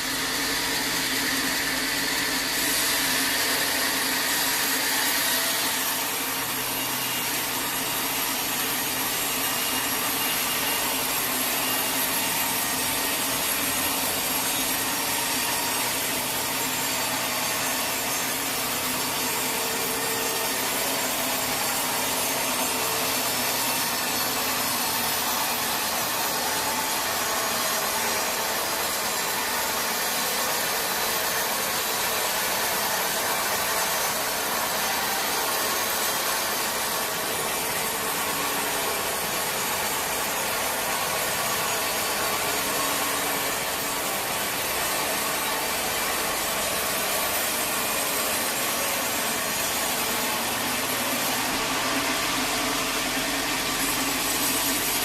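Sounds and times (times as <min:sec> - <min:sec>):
saw blade cutting wood: 0:00.0 - 0:55.0.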